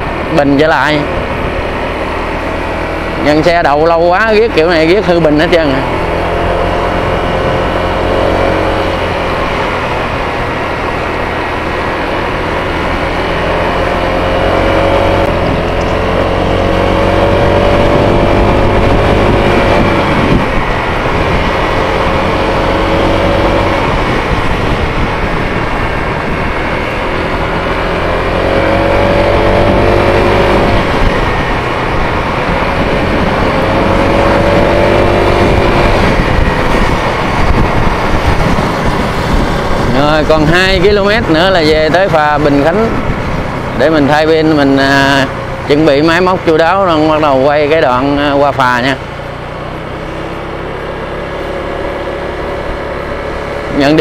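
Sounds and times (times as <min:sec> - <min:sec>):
motorcycle engine running: 0:00.0 - 0:54.0
steady rushing noise: 0:00.0 - 0:54.0.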